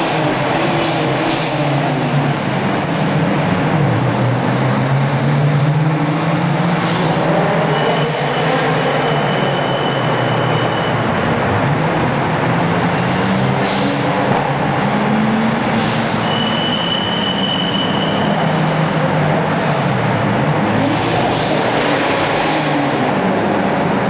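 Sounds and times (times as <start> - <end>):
car engines echoing in tunnel: 0.0 - 24.0.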